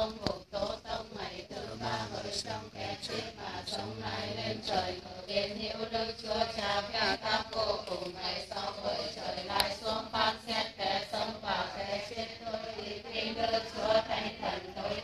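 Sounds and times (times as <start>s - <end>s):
women chanting prayers in unison: 0.0s - 15.0s.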